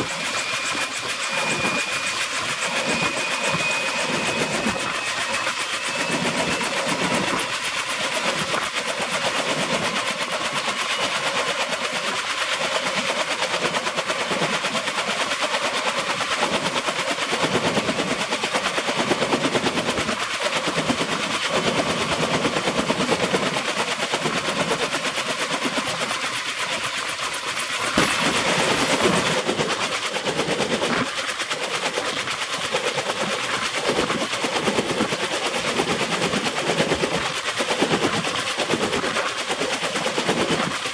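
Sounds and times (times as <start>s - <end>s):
helicopter rotors chopping: 0.0s - 40.9s
turbine engine whine: 0.0s - 40.9s.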